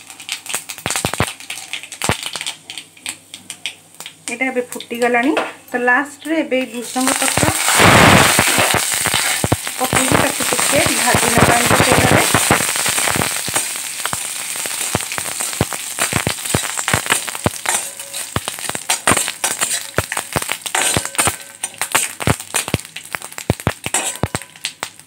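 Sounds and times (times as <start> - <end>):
spices popping and crackling: 0.0 - 25.0
spices sizzling in oil: 0.0 - 25.0.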